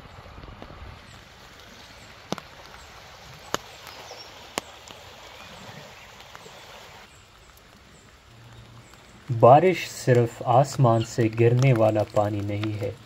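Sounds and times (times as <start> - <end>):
light rain on grass: 0.0 - 13.0.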